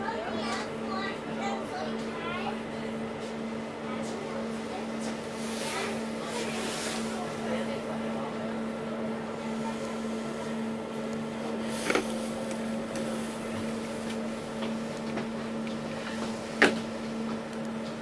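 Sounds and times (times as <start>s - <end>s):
boat engines humming: 0.0s - 18.0s.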